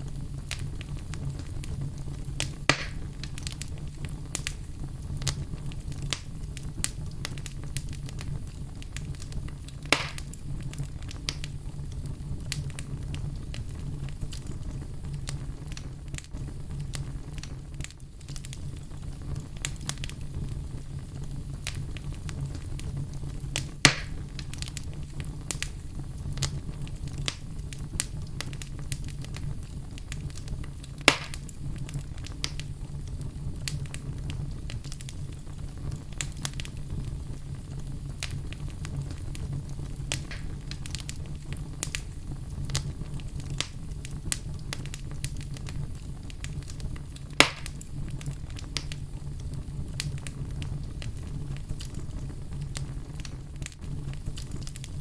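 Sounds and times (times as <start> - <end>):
fireplace fire crackling: 0.0 - 55.0
loud pops of fire: 0.0 - 55.0.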